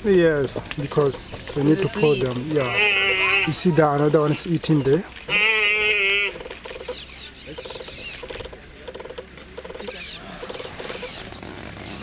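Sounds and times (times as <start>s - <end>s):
wild dogs twittering and squeaking: 0.5s - 12.0s.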